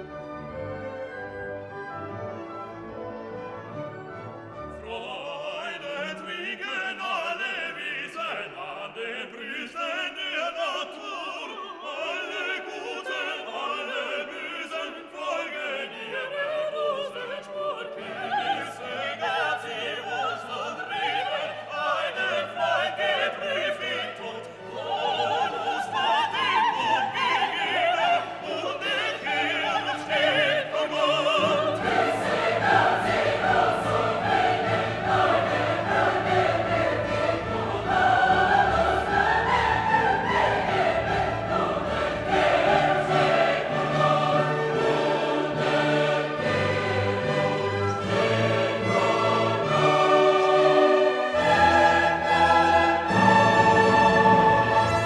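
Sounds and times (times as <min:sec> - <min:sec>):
orchestra: 0:00.0 - 0:55.0
operatic singing: 0:04.5 - 0:55.0.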